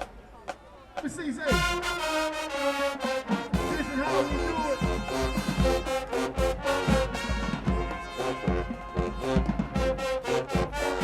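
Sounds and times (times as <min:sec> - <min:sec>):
drumline beat: 0:00.0 - 0:11.0
brass playing: 0:01.5 - 0:11.0.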